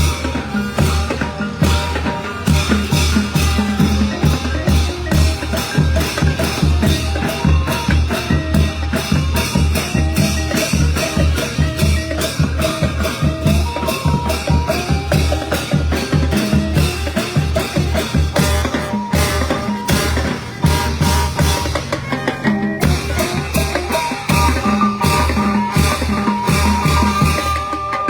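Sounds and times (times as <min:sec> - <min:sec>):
brass band playing: 0:00.0 - 0:28.0
fast steady drum beat: 0:00.0 - 0:28.0
held horn melody: 0:00.0 - 0:28.0.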